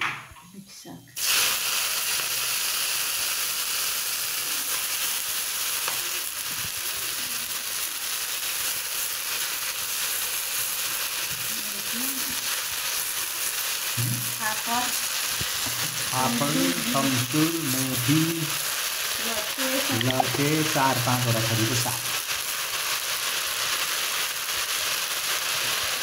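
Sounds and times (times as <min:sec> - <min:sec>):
greens sizzling in hot oil: 0:01.2 - 0:26.0.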